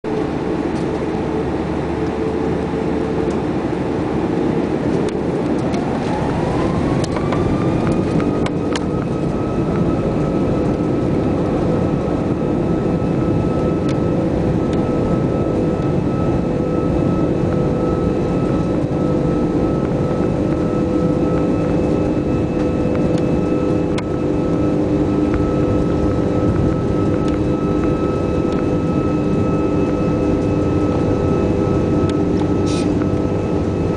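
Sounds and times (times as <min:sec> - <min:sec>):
high engine whine: 0:00.0 - 0:33.9
loud steady rumble: 0:00.0 - 0:33.9
jet engines spooling up: 0:00.1 - 0:33.9.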